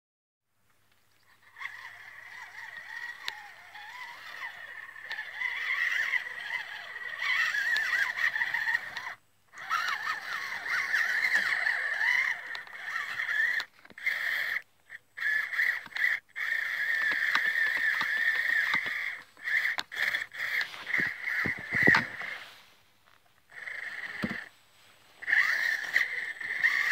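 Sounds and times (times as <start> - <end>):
toy car electric motor whining: 1.2 - 26.9.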